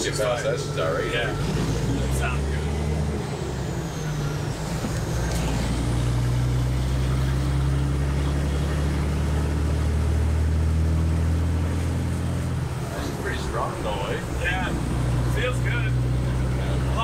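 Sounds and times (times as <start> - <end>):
truck diesel engine pulling: 0.0 - 17.0.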